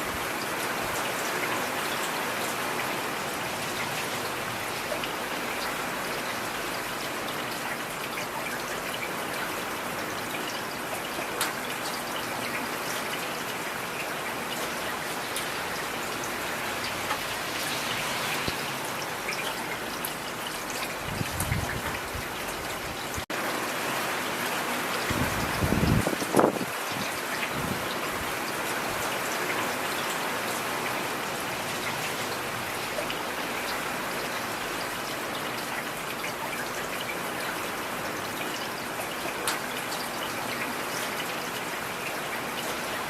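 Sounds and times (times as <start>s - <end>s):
heavy rain pattering: 0.0s - 43.0s.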